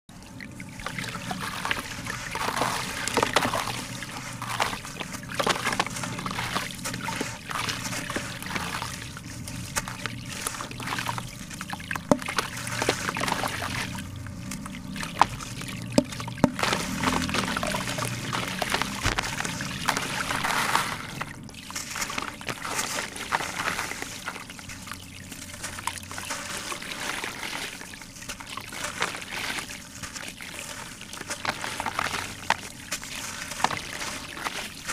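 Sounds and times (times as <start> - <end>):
water sloshing and trickling: 0.1 - 34.9
gritty squelches of wet cement: 0.4 - 34.9.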